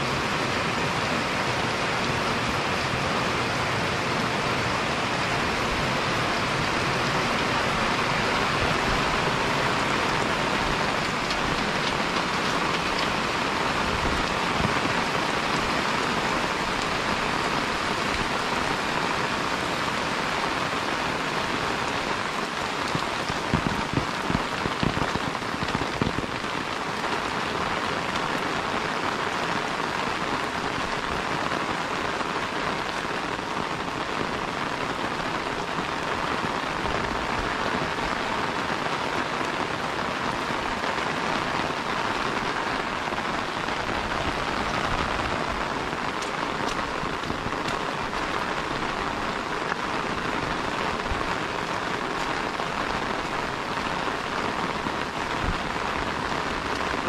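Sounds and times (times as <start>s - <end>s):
rain pattering on an umbrella: 0.0s - 57.0s.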